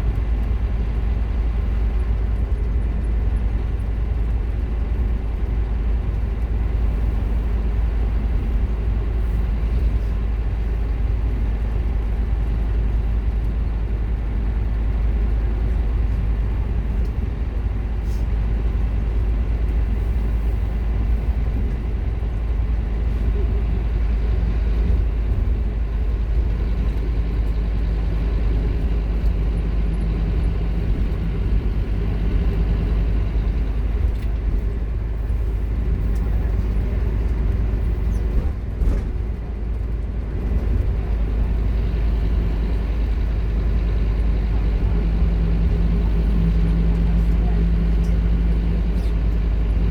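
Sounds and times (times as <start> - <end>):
bus diesel engine rumbling: 0.0 - 49.9.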